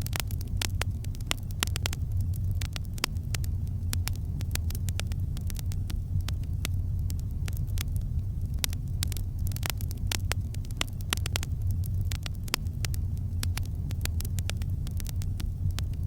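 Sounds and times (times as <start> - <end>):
burning wood crackling and popping: 0.0 - 16.0
low fire rumble: 0.0 - 16.0.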